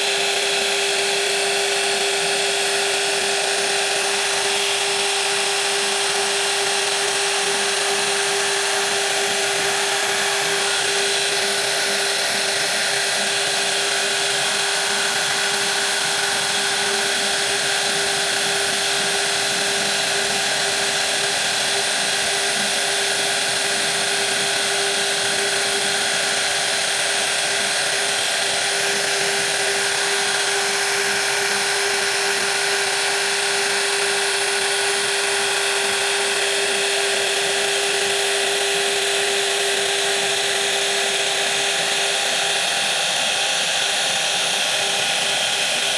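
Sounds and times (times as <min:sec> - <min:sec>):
electric power tool whining: 0:00.0 - 0:45.9.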